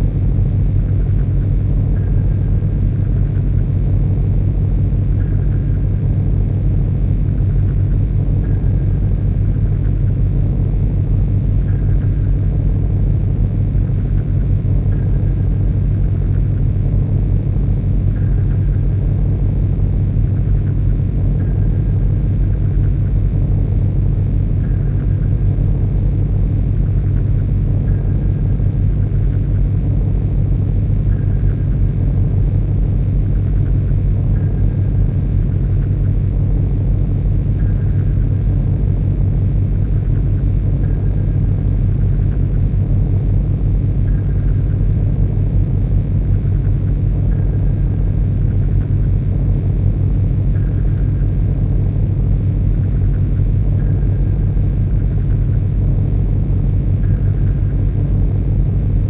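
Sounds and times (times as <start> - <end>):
harsh low rumble with flutter: 0.0 - 59.0.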